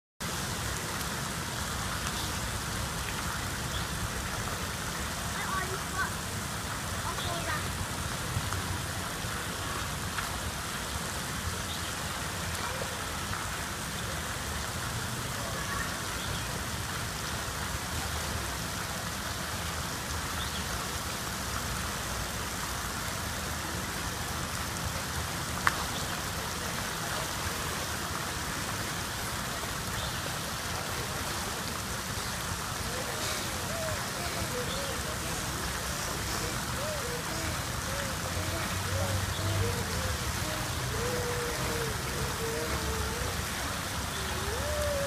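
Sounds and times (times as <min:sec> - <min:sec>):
pool water splashing: 0:00.2 - 0:45.0.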